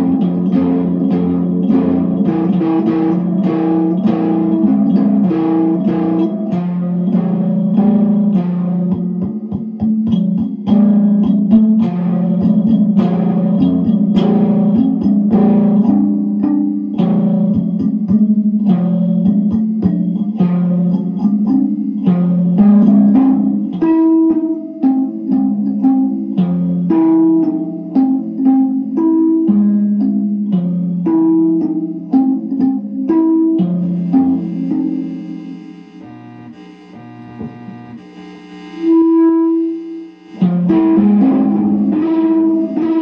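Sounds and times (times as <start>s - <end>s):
effected kalimba melody: 0.0s - 38.0s, 39.6s - 43.0s.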